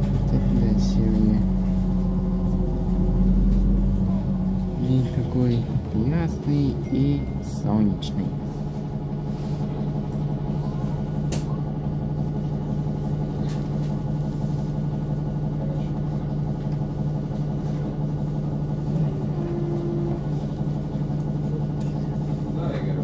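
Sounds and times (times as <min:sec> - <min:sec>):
bus cabin hum: 0:00.0 - 0:23.0
bus engine drone: 0:00.0 - 0:23.0.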